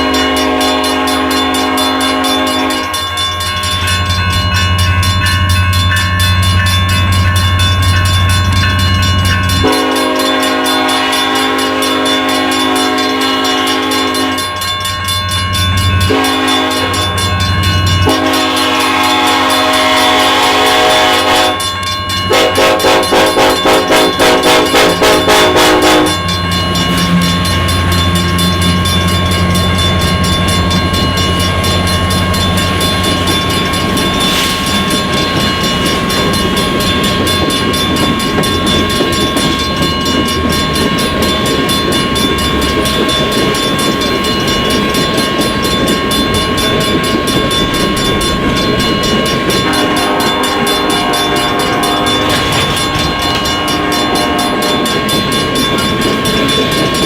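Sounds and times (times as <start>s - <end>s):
diesel locomotive engine rumble: 0.0s - 57.0s
train wheels on rail: 0.0s - 57.0s.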